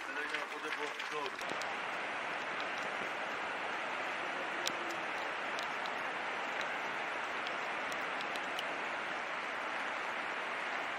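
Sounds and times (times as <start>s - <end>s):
floodwater rushing: 0.0s - 10.9s.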